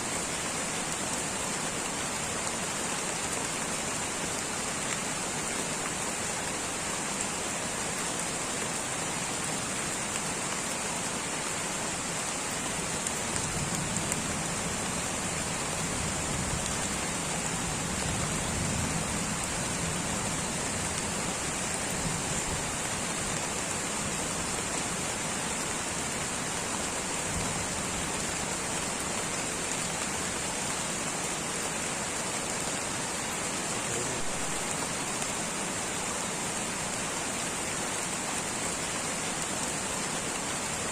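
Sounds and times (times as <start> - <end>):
light rain on foliage: 0.0 - 40.9.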